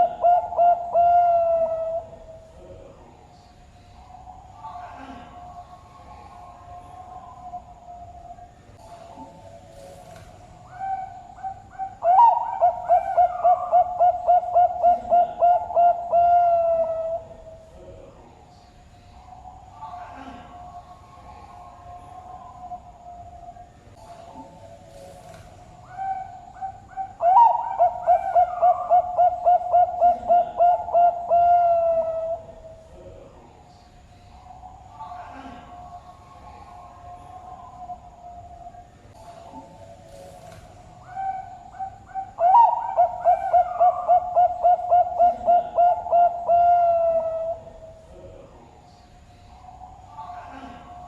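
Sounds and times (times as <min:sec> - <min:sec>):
dove cooing: 0:00.0 - 0:03.2, 0:04.0 - 0:18.4, 0:19.1 - 0:33.6, 0:34.3 - 0:48.8, 0:49.4 - 0:51.0.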